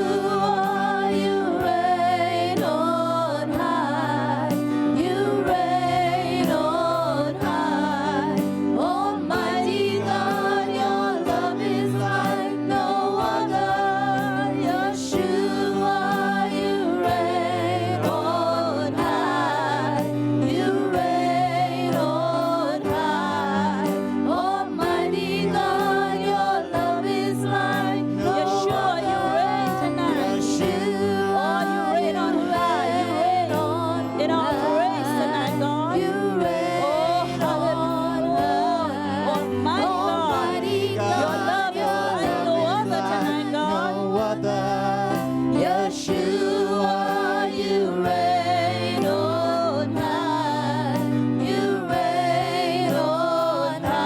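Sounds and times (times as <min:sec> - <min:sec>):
instrumental backing: 0:00.0 - 0:54.0
voices singing with vibrato: 0:00.0 - 0:54.0.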